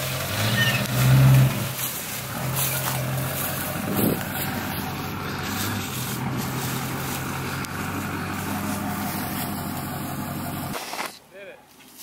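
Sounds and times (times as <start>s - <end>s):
pickup truck engine idling: 0.0s - 10.8s.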